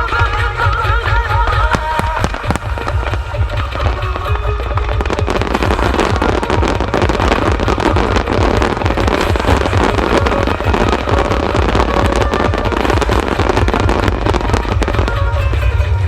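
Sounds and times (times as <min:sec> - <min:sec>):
rapid firework bursts and crackling: 0:00.0 - 0:16.0.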